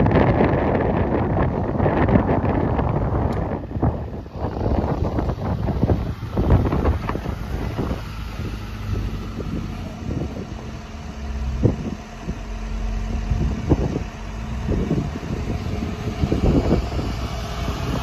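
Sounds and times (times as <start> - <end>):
diesel truck engine running: 0.0 - 18.0
plow pushing snow: 0.0 - 18.0.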